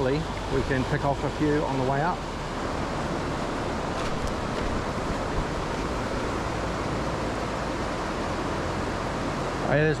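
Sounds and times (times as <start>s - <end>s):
river flowing over stones: 0.0s - 10.0s.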